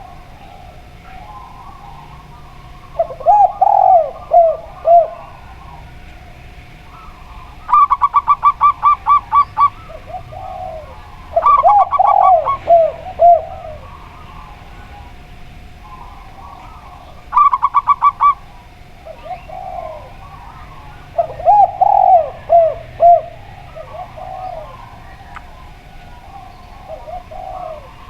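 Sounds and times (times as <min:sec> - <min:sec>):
doves cooing: 0:00.0 - 0:28.0.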